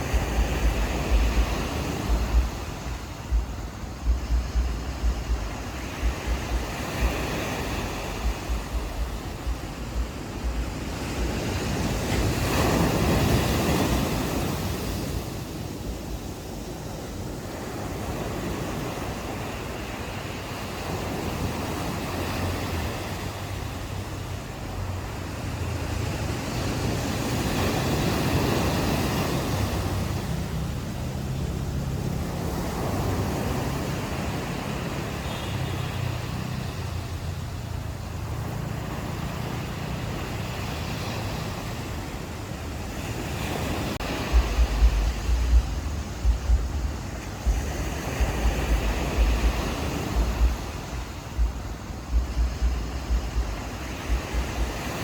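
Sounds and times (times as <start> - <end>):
ocean waves on beach: 0.0 - 55.0
wind buffeting microphone: 0.0 - 55.0.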